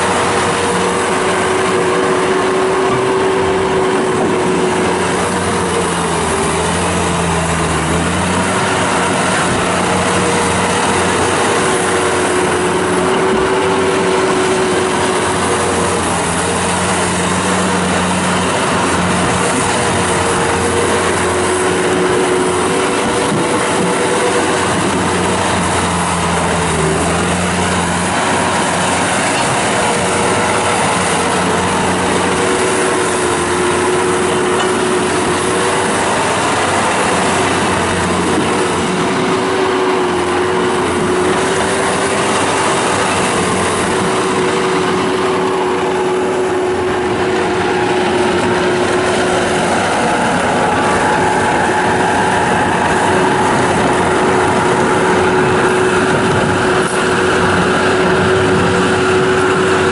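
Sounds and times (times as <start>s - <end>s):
skid steer loader diesel engine droning: 0.0s - 59.9s.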